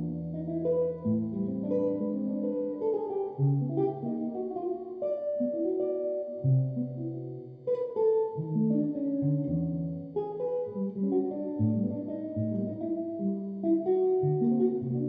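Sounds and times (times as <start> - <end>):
electric jazz guitar chords: 0.0 - 15.0.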